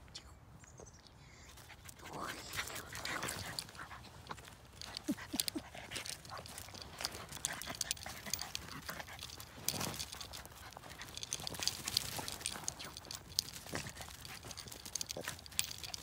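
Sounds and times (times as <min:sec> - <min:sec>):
paws scuffling through wood chips: 0:01.7 - 0:16.0.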